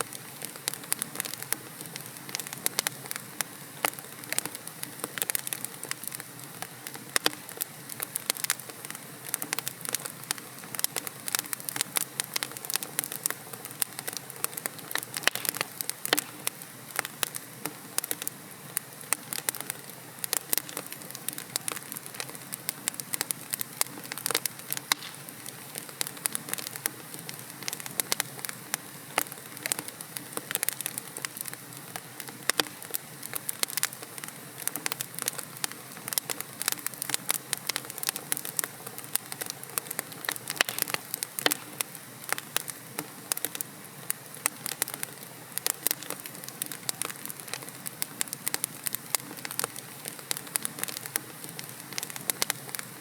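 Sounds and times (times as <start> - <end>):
hiss of flames: 0.0 - 53.0
logs crackling and popping: 0.0 - 53.0.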